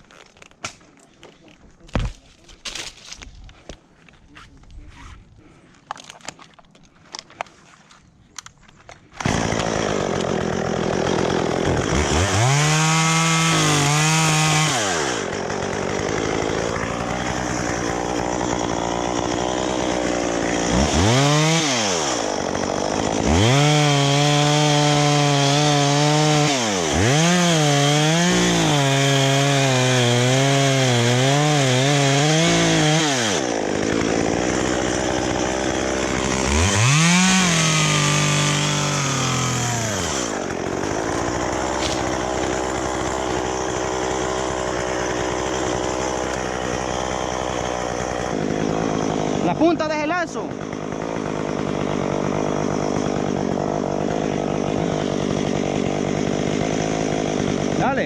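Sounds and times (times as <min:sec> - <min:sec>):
chainsaw revving and cutting wood: 0:09.2 - 0:58.0.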